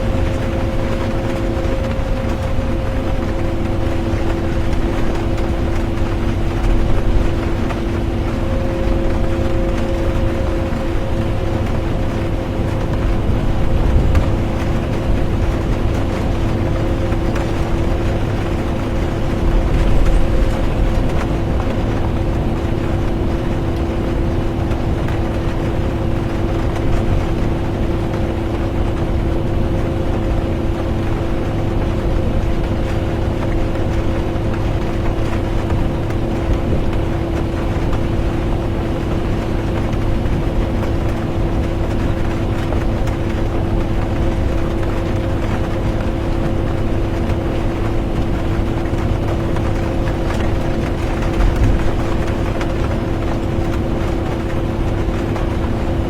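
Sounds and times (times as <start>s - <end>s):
bus engine and road rumble: 0.0s - 56.0s
droning hum: 0.0s - 56.0s
rain: 0.0s - 56.0s.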